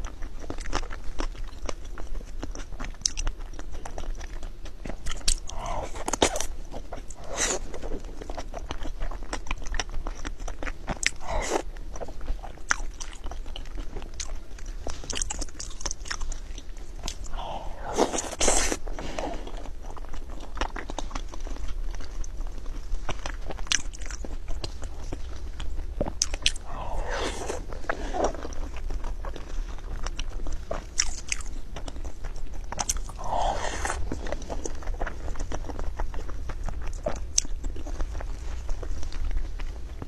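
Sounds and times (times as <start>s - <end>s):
person chewing with wet clicks: 0.0s - 40.0s.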